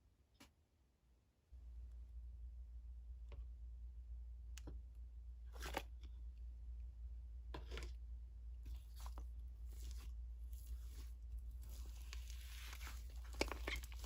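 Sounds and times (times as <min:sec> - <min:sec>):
low electrical hum: 0:01.2 - 0:14.0.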